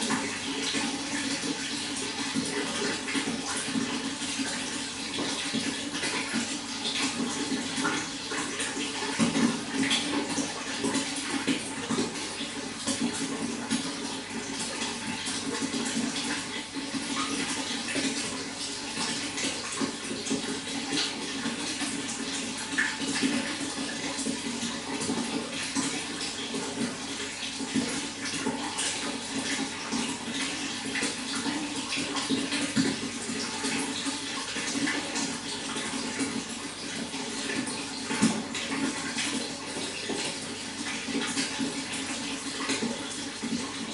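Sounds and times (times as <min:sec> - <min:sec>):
running water with splashes: 0:00.0 - 0:43.9.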